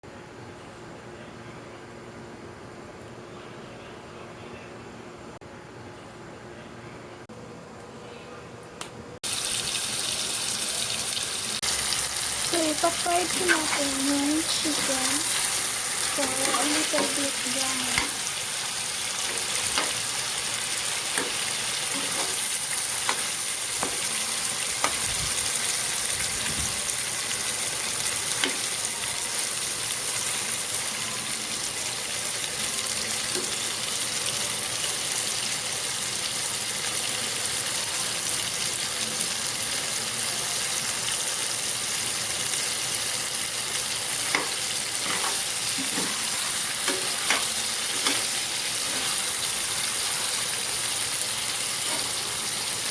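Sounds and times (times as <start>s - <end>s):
chicken sizzling in hot oil: 9.2s - 52.9s.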